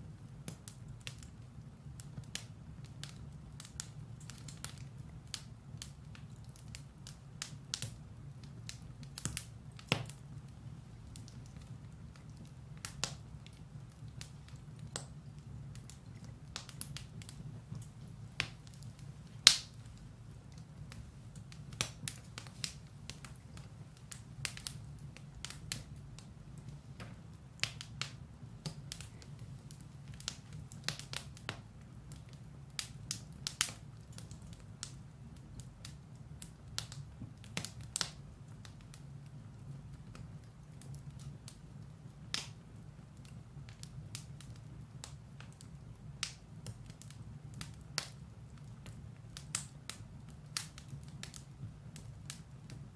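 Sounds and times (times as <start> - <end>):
firewood crackling and popping: 0.0 - 52.9
low rumble of fire: 0.0 - 52.9.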